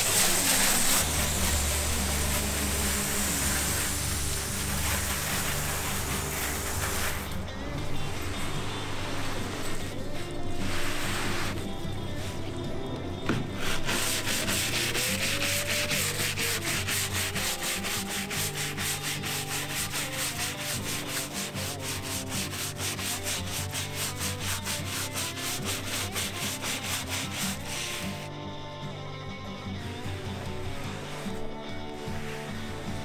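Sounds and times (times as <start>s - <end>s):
brush scrubbing wet wood: 0.0s - 12.6s, 13.3s - 28.3s, 29.9s - 33.0s.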